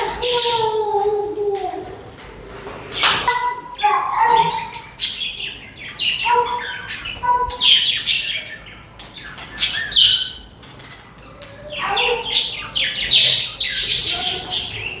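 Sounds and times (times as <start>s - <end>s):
budgies chirping and squawking: 0.0s - 1.2s, 2.6s - 15.0s.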